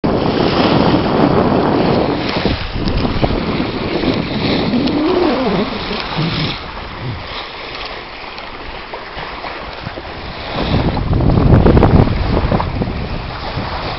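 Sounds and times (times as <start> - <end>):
water rushing along hull: 0.0 - 13.9
wind buffeting microphone: 0.0 - 13.9.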